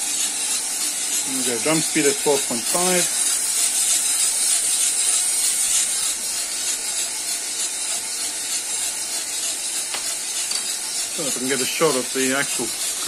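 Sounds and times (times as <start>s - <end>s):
coffee beans rattling in roaster drum: 0.0s - 13.0s
steady hiss: 0.1s - 13.0s.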